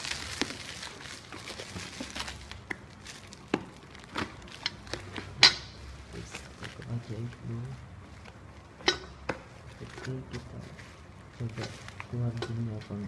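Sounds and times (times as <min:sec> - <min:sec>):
packaging crinkling and rustling: 0:00.0 - 0:05.4, 0:06.0 - 0:08.7, 0:09.4 - 0:13.0.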